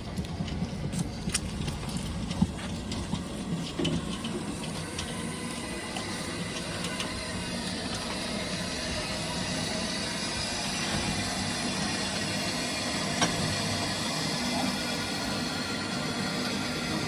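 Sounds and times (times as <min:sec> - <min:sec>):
steam locomotive hissing: 0:03.2 - 0:17.0.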